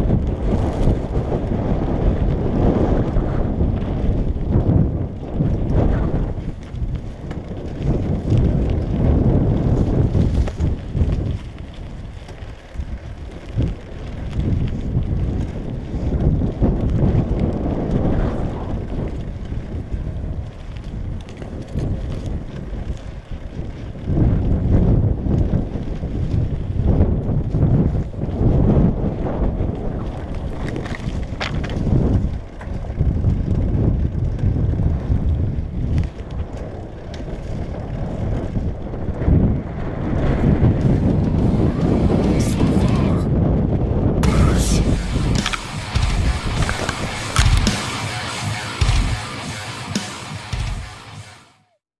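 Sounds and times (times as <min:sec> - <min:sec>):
wind buffeting microphone: 0:00.0 - 0:51.3.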